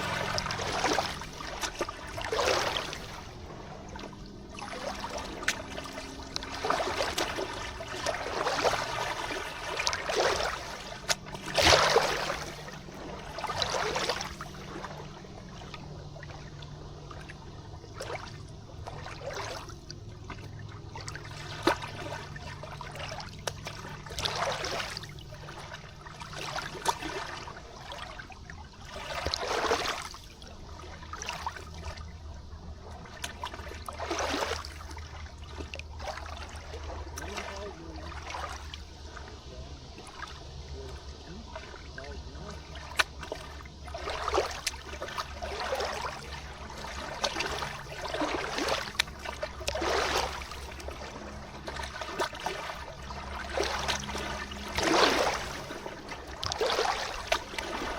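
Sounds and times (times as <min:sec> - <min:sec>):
river water trickling and splashing: 0:00.0 - 0:57.9.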